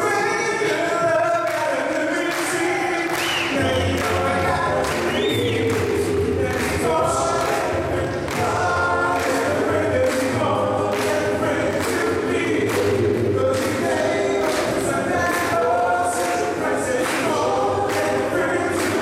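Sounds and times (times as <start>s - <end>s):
male group singing in harmony: 0.0s - 19.0s.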